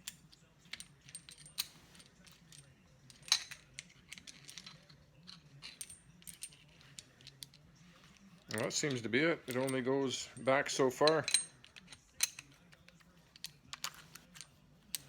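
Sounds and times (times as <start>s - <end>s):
small metal parts clinking: 0.0s - 15.0s.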